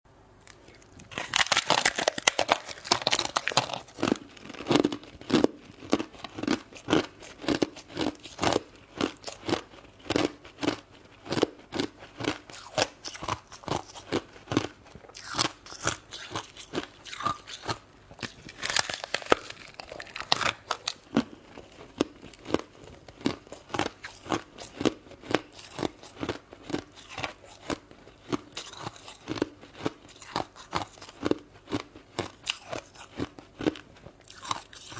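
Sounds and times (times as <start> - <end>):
chewing crunchy ice: 0.4 - 34.9.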